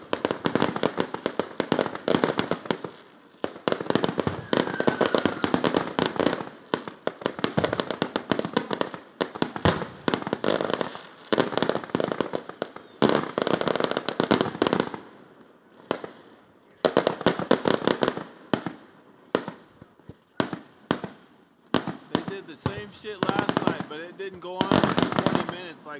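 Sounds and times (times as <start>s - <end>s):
fireworks crackling bangs: 0.0s - 15.2s, 15.8s - 25.9s.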